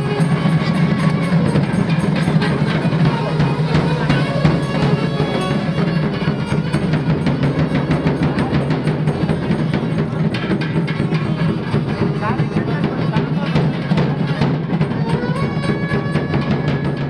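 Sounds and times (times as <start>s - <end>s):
music with drums and percussion: 0.0s - 17.0s.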